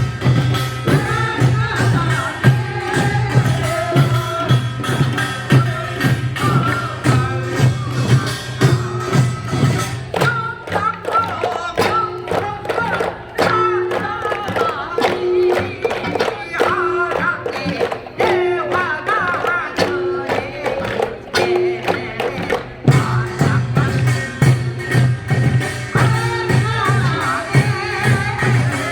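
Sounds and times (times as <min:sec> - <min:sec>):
folk singing: 0:00.0 - 0:28.9
steady drum beats: 0:00.0 - 0:28.9.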